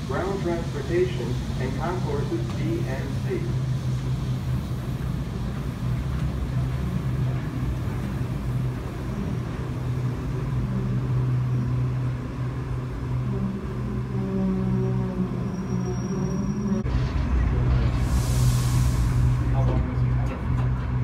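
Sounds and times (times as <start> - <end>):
tram gliding with low hum: 0.0 - 21.0.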